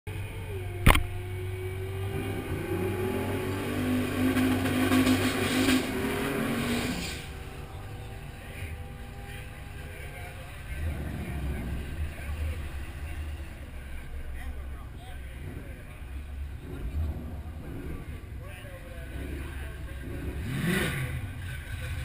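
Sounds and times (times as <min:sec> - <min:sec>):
car engine running: 0:00.7 - 0:22.0.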